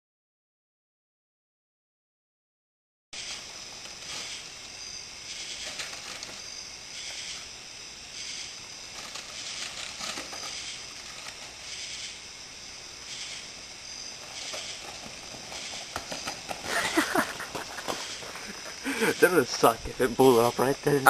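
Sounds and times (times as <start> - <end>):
fire hissing and crackling: 3.2 - 21.0.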